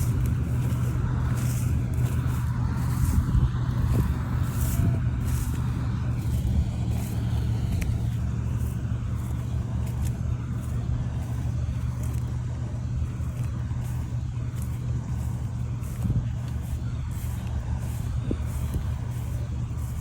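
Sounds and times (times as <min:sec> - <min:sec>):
harvester engine humming: 0:00.0 - 0:20.0.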